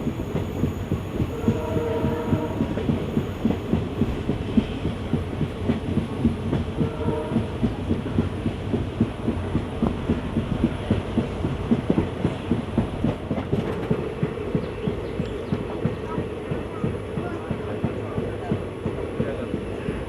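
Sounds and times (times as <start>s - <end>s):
passenger train rumbling on track: 0.0s - 20.0s
wheels rattling on rails: 0.0s - 20.0s.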